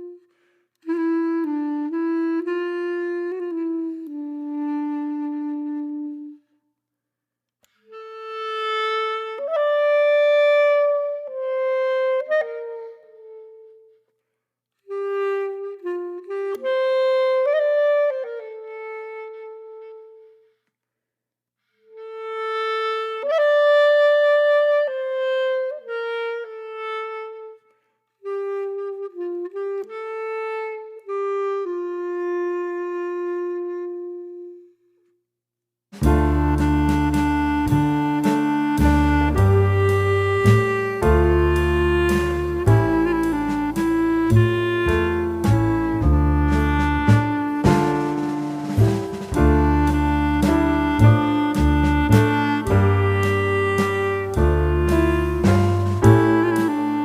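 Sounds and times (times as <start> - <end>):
slow woodwind melody: 0.0 - 6.6, 7.6 - 14.2, 14.8 - 20.6, 21.9 - 35.2, 36.0 - 57.0.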